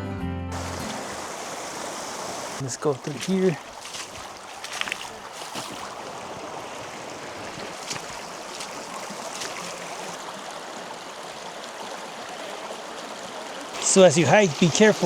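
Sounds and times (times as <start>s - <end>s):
creek rushing over rocks: 0.5s - 15.0s
faint water splashes: 0.5s - 15.0s.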